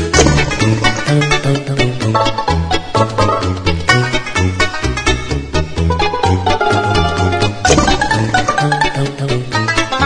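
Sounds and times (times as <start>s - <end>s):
plucked string notes: 0.0s - 10.0s
upbeat music with bouncing bass: 0.0s - 10.0s.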